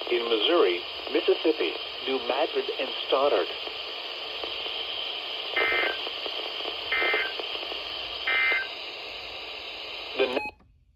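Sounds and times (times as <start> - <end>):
radio hiss: 0.0 - 10.5.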